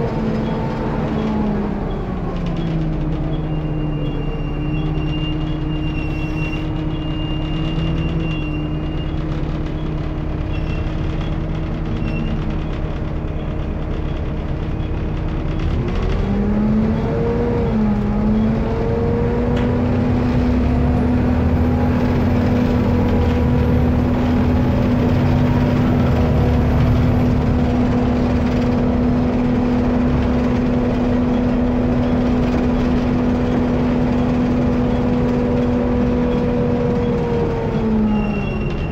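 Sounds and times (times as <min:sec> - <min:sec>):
bus diesel engine droning: 0:00.0 - 0:38.9.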